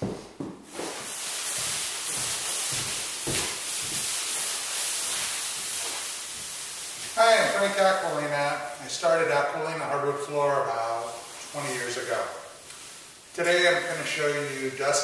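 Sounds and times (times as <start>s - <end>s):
steady rushing hiss: 0.7s - 15.0s.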